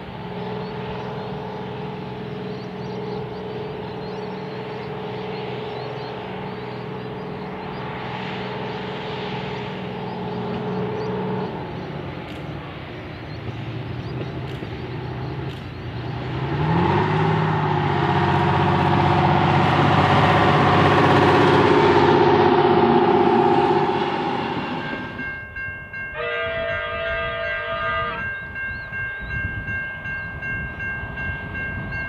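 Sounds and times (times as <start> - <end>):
diesel rail motor engine passing: 0.0 - 32.0.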